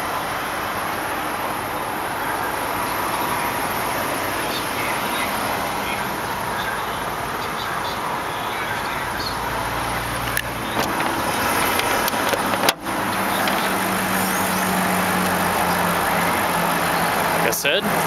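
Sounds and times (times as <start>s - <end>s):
car engine idling quietly: 0.0s - 18.0s.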